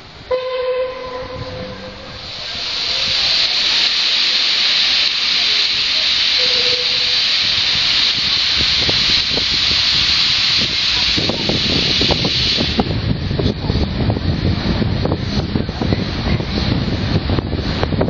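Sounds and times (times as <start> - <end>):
steam hissing from locomotive: 0.0 - 18.0.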